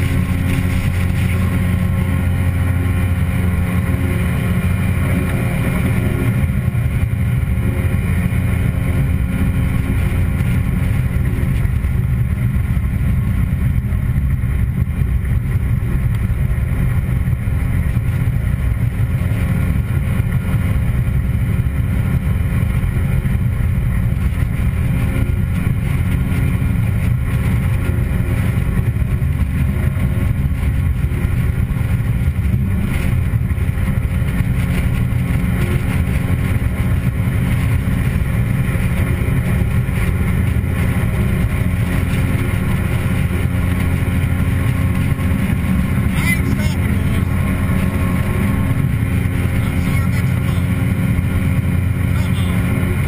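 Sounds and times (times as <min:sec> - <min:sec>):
outboard jet motor running: 0:00.0 - 0:53.0.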